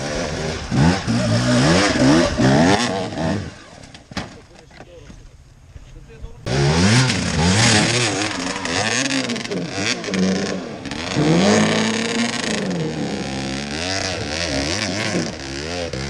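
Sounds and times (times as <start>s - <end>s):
dirt bike engine revving: 0.0s - 4.1s, 6.4s - 16.0s.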